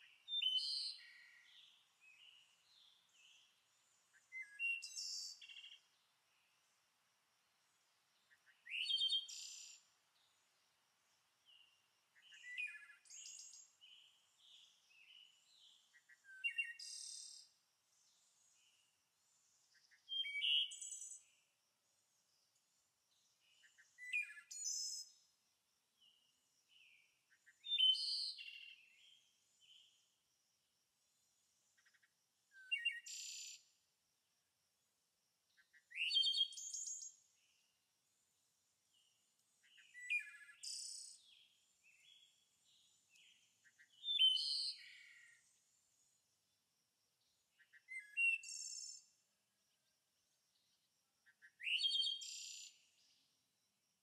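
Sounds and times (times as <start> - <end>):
songbird chirping and trilling: 0.0 - 6.8, 8.2 - 10.7, 11.4 - 25.4, 26.0 - 30.2, 31.1 - 33.8, 35.5 - 37.8, 38.9 - 46.2, 47.2 - 53.3.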